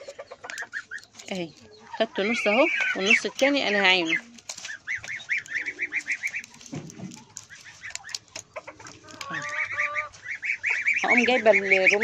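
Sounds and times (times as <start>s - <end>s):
poultry calling: 0.0s - 12.0s.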